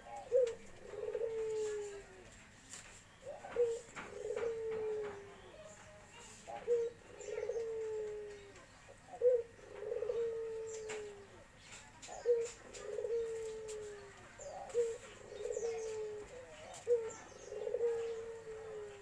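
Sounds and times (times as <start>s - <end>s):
dove cooing: 0.0s - 2.4s, 3.1s - 19.0s.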